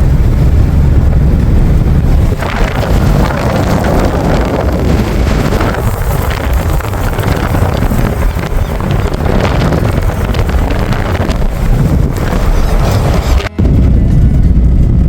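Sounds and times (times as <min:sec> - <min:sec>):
moving car rumble: 0:00.0 - 0:15.0
wind buffeting microphone: 0:00.0 - 0:15.0.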